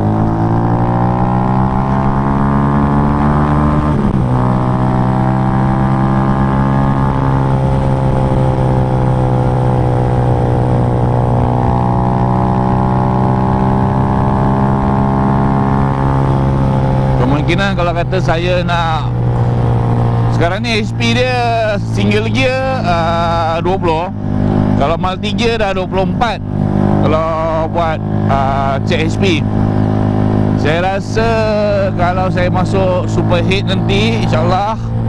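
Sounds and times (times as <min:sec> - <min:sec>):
motorcycle engine running hard: 0:00.0 - 0:35.0.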